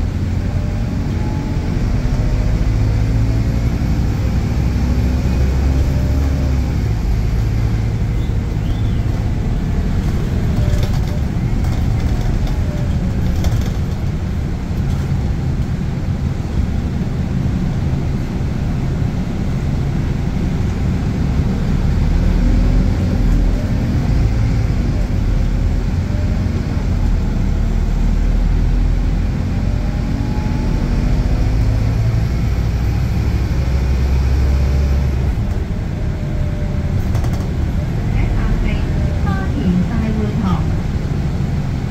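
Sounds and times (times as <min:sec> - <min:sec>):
bus engine accelerating: 0:00.0 - 0:41.9.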